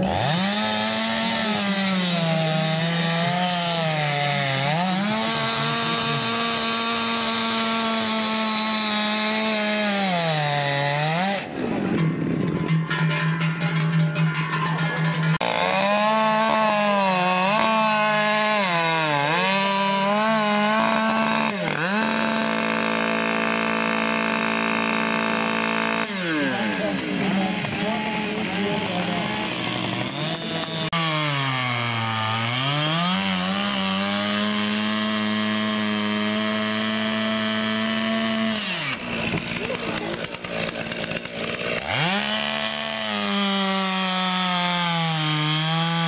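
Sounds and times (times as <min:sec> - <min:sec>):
chainsaw cutting wood: 0:00.0 - 0:46.0.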